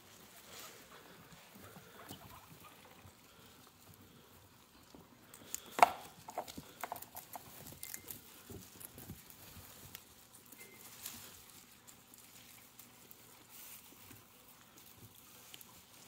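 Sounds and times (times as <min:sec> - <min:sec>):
guinea pigs rustling in hay: 0:00.0 - 0:05.7, 0:06.5 - 0:16.0
guinea pigs chewing greens: 0:00.0 - 0:16.0.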